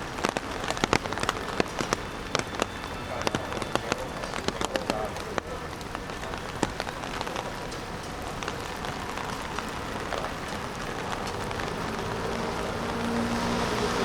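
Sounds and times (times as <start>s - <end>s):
raindrop strikes: 0.0s - 14.0s
steady rain falling: 0.0s - 14.0s.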